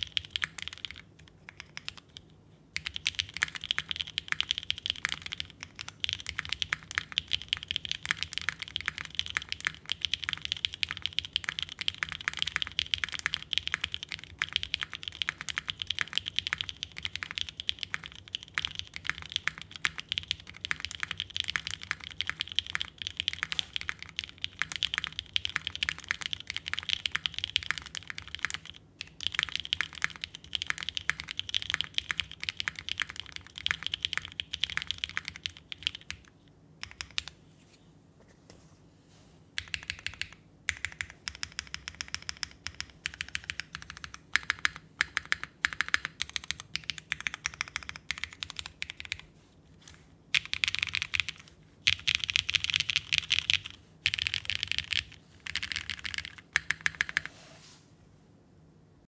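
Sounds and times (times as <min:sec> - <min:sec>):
typing on a mechanical keyboard: 0:00.0 - 0:37.4, 0:39.6 - 0:57.3.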